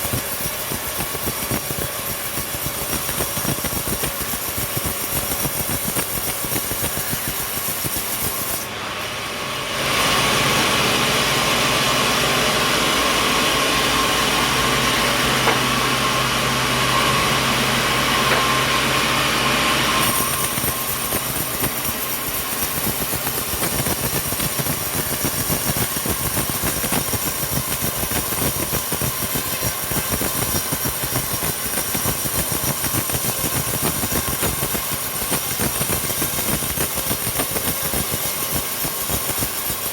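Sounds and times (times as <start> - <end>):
mill machinery running: 0.0 - 39.9
sawmill saw cutting wood: 0.0 - 39.9.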